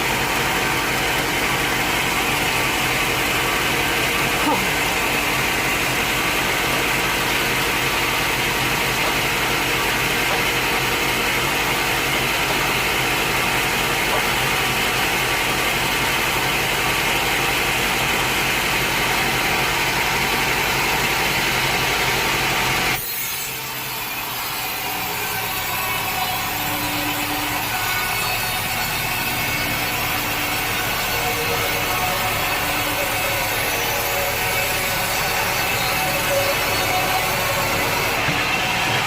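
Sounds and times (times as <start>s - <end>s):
sawmill blade cutting log: 0.0s - 39.0s.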